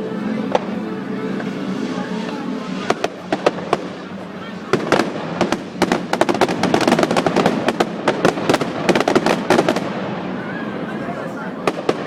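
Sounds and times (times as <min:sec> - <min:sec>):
fireworks cracking and popping: 0:00.5 - 0:10.4, 0:11.6 - 0:12.0.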